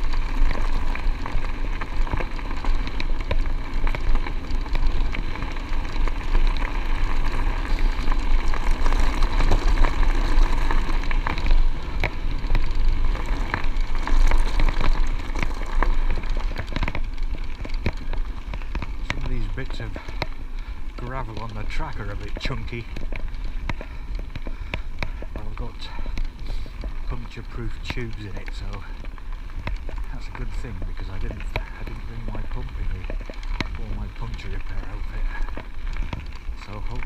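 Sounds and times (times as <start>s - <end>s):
bicycle tyres rolling on gravel: 0.0s - 37.0s.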